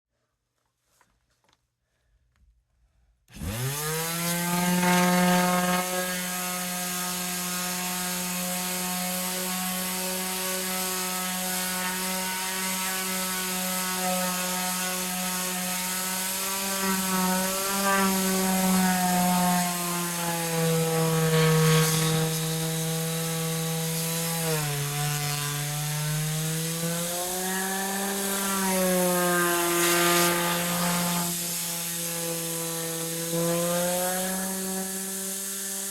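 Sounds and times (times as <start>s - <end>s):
electric sander humming: 3.3s - 35.9s.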